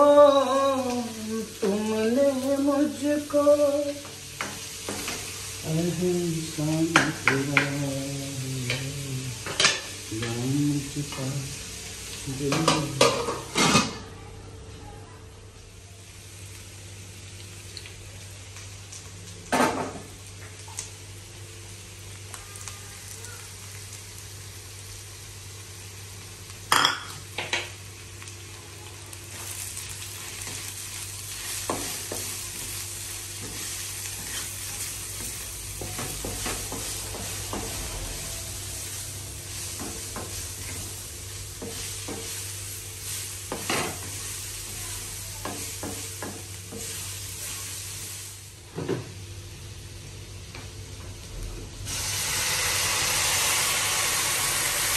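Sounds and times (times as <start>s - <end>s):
vegetables sizzling in a wok: 0.0s - 54.9s.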